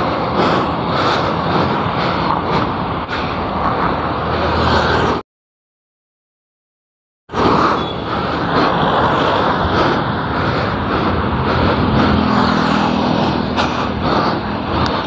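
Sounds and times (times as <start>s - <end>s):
wind rushing over microphone: 0.0s - 5.2s, 7.3s - 15.0s.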